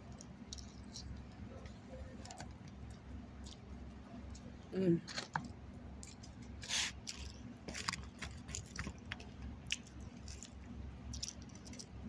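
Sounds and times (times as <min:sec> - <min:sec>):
person chewing food: 0:00.0 - 0:04.5, 0:05.2 - 0:12.0.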